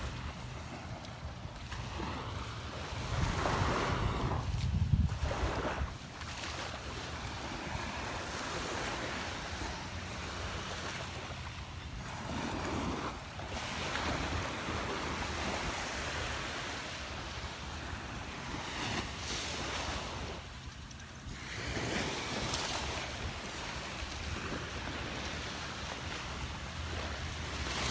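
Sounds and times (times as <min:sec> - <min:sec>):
waves breaking on sandy beach: 0:00.0 - 0:27.9
wind rumble on microphone: 0:00.0 - 0:27.9.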